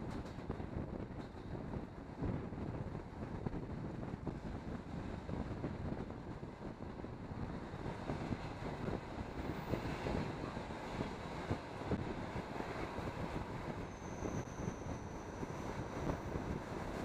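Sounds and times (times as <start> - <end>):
train rumble inside carriage: 0.0 - 17.0.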